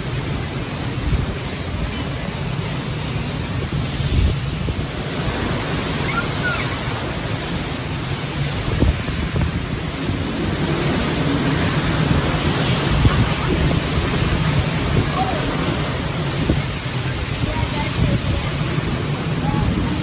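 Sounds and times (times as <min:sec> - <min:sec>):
heavy rain: 0:00.0 - 0:20.0
wind buffeting microphone: 0:00.0 - 0:20.0.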